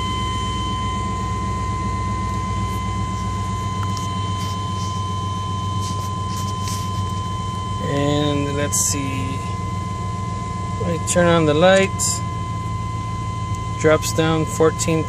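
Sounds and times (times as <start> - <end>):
thin high whine: 0.0 - 15.0
truck engine idling: 0.0 - 15.0.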